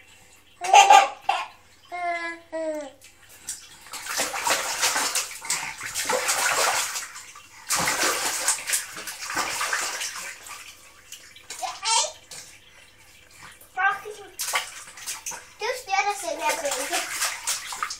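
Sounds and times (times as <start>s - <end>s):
baby splashing water in bath: 0.5s - 17.9s.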